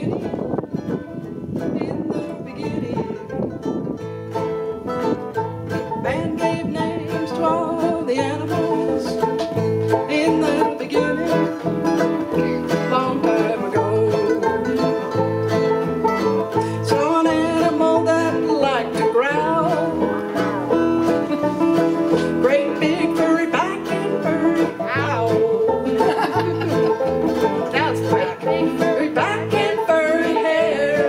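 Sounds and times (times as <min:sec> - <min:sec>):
acoustic guitars strummed: 0:00.0 - 0:31.0
mandolins: 0:00.0 - 0:31.0.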